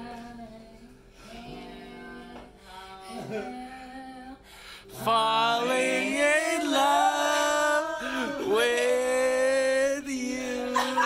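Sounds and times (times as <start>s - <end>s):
woman singing unaccompanied: 0.0s - 8.9s.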